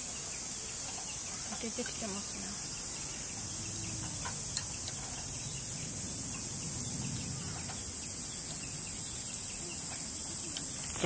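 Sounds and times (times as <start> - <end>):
high-pitched insects chorus: 0.0 - 11.0.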